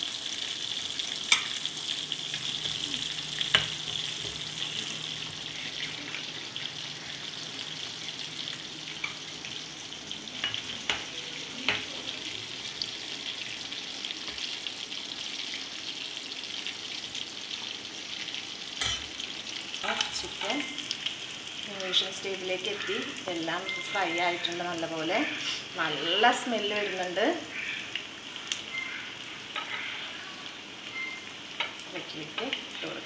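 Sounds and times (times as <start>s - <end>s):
chicken deep-frying sizzle: 0.0s - 33.0s.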